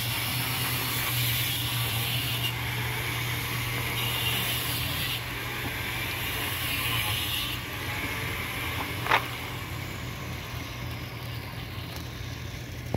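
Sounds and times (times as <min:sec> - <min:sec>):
low motor hum: 0:00.0 - 0:12.9
outdoor background hiss: 0:00.0 - 0:12.9.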